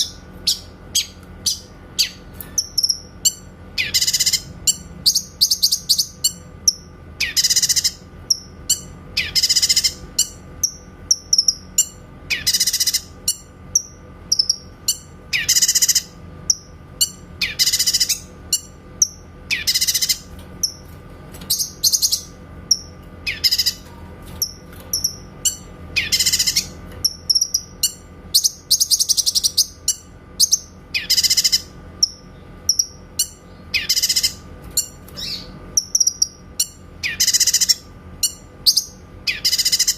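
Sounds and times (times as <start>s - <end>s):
bird chirps: 0.0s - 20.9s, 21.5s - 39.9s
bird singing high-pitched calls: 0.0s - 20.9s, 21.5s - 39.9s.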